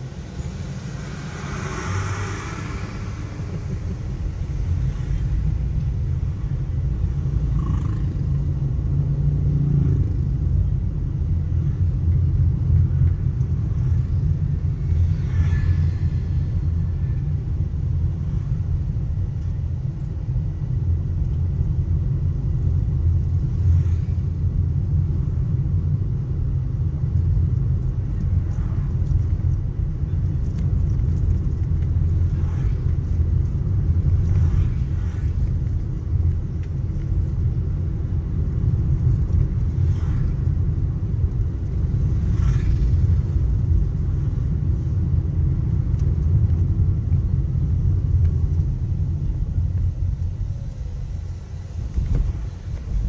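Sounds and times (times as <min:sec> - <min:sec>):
car engine and tyres rumbling: 0:00.0 - 0:53.0
passing traffic swishes: 0:00.0 - 0:53.0.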